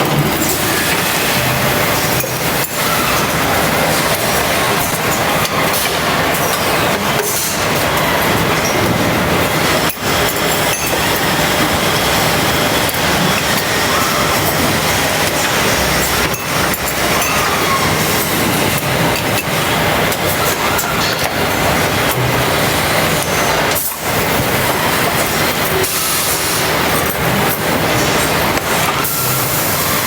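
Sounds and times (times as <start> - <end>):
machinery running: 0.0 - 30.0.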